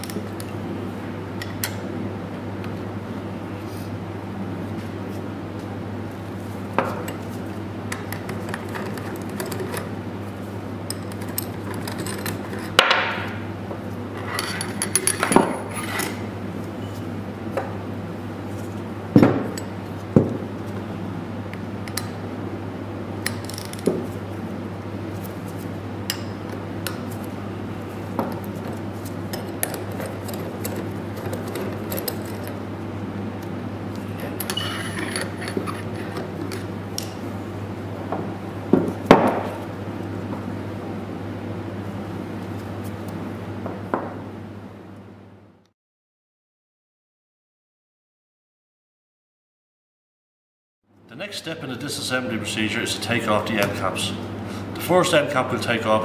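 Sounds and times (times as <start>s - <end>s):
steady low hum: 0.0s - 45.7s.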